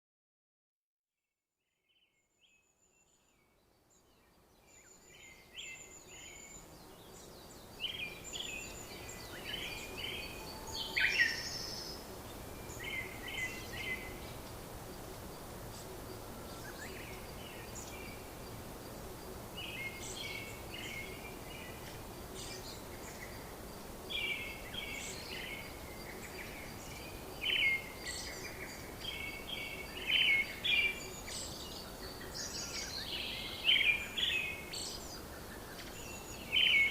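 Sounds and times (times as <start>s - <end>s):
steady background hiss: 2.4s - 36.9s.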